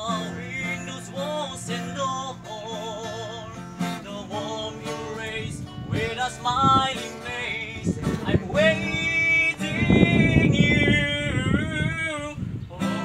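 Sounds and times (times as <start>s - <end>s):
young men singing together: 0.0s - 12.0s
acoustic guitar strumming: 0.0s - 13.0s.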